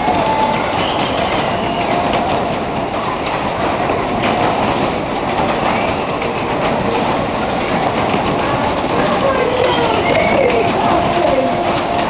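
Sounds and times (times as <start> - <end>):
fairground ride rumbling: 0.0 - 12.0.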